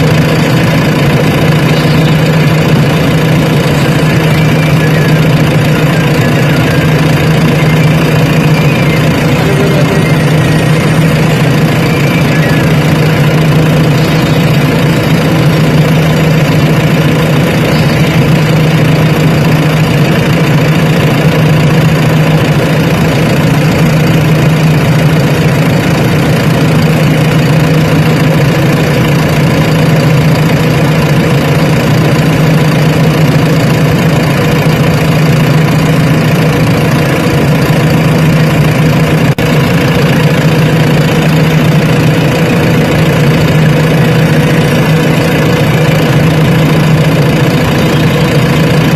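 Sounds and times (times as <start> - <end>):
heavy diesel engine running: 0.0 - 48.9.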